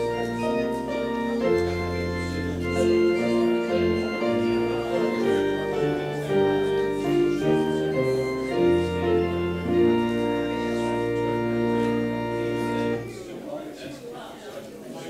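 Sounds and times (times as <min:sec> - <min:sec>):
organ playing sustained chords: 0:00.0 - 0:13.4.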